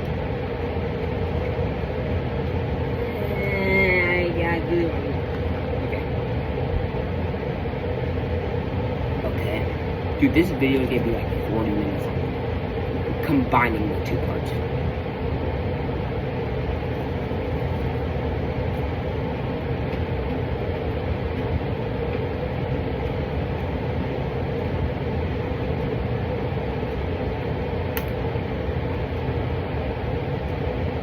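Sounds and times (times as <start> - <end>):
faint even hum: 0.0 - 31.0
rumbling background noise: 0.0 - 31.0.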